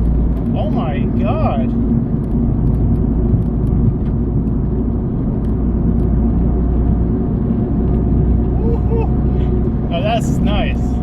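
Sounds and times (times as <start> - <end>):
car engine: 0.0 - 11.0
road rumble: 0.0 - 11.0.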